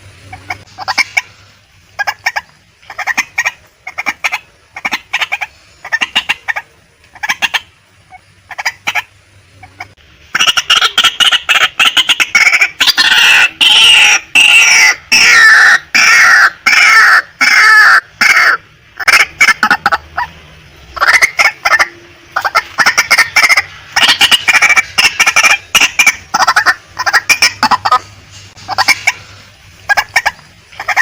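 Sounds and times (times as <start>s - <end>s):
waterhen calling: 0.0s - 31.0s.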